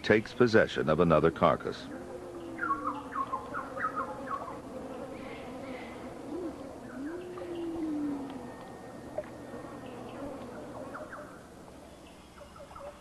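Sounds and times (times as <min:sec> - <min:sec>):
birds chirping: 0:00.0 - 0:13.0
faint steady hum: 0:00.0 - 0:13.0
drawn-out bird calls: 0:00.4 - 0:13.0.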